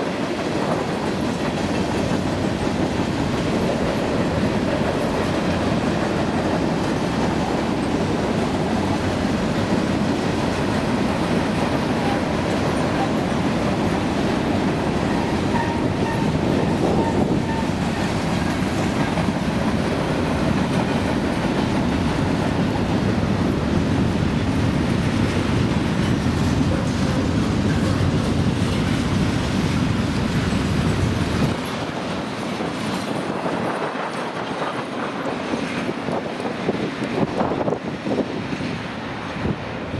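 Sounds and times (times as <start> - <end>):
wheels clicking over rail joints: 0.0 - 39.6
freight train rumbling past: 0.0 - 39.9.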